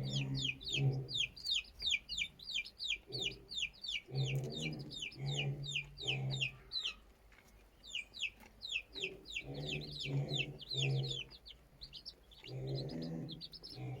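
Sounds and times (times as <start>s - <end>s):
chicks peeping: 0.0s - 14.0s
hen clucking: 0.0s - 14.0s.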